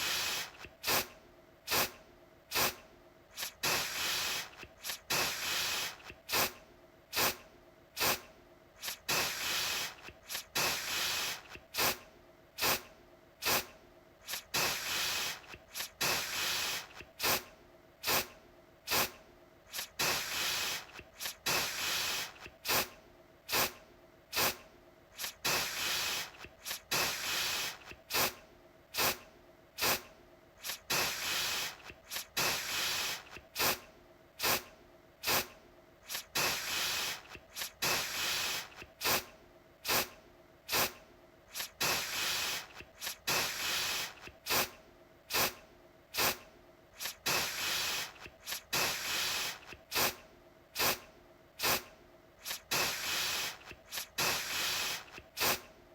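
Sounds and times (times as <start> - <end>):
aerosol can spraying: 0.0 - 1.1, 1.7 - 7.4, 8.0 - 12.0, 12.6 - 18.3, 18.9 - 24.6, 25.2 - 28.4, 29.0 - 29.2, 29.8 - 33.8, 34.4 - 40.1, 40.7 - 45.6, 46.2 - 46.4, 47.0 - 50.2, 50.8 - 51.0, 51.6 - 55.7.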